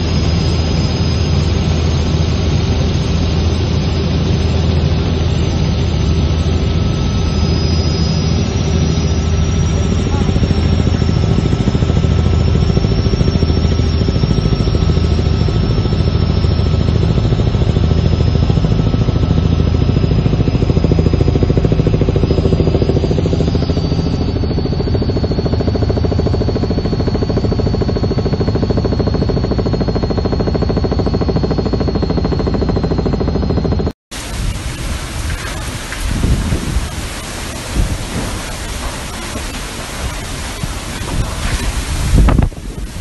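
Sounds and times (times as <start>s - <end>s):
helicopter turbine whine: 0.0s - 43.0s
low pulsing rotor beat: 0.0s - 43.0s.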